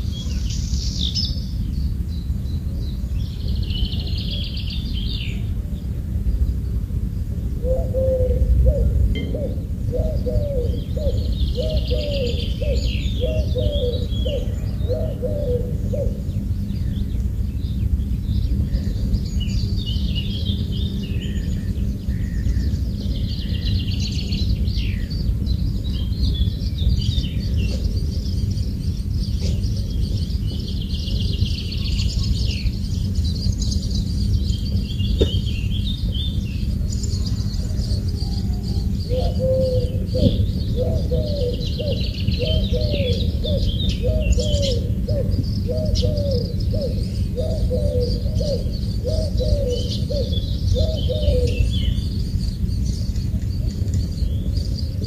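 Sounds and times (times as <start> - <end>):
birds chirping and singing: 0.0 - 55.0
low repeated bird call: 0.0 - 55.0.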